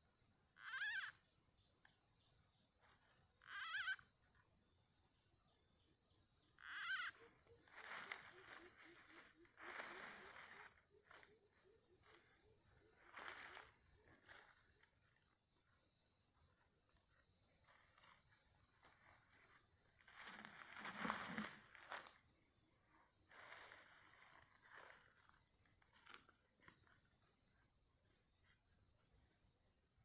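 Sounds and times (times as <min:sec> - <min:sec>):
insect trill: 0:00.0 - 0:30.0.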